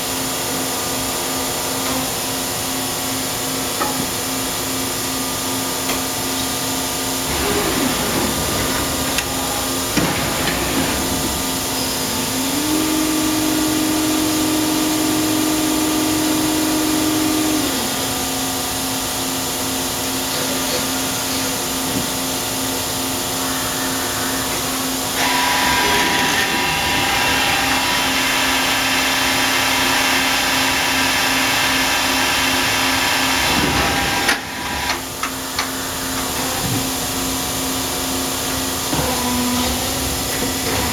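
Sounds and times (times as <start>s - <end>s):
lathe humming: 6.2s - 40.9s.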